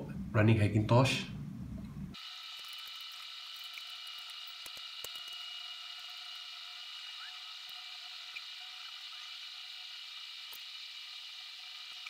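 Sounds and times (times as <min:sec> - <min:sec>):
faint high whining tones: 0:01.8 - 0:12.0.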